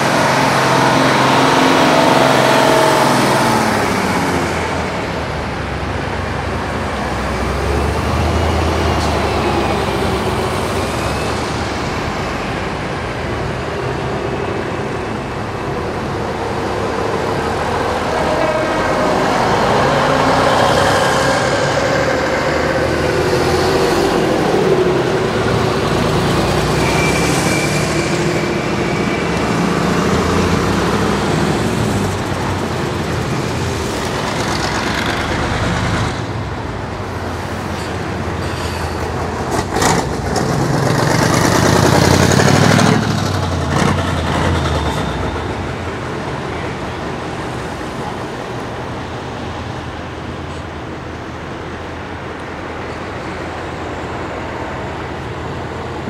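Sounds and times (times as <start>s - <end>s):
buses driving past: 0.0s - 56.0s.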